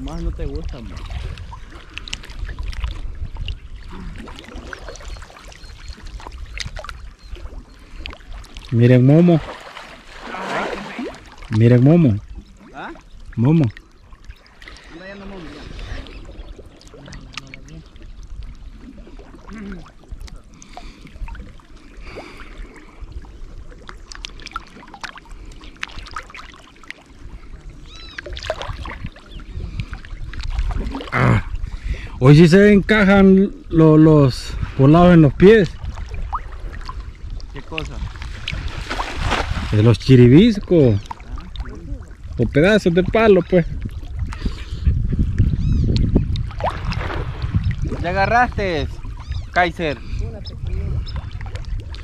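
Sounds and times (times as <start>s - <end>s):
wind rumble on microphone: 0.0s - 26.3s, 27.1s - 52.0s
water sloshing and splashing: 0.0s - 52.0s.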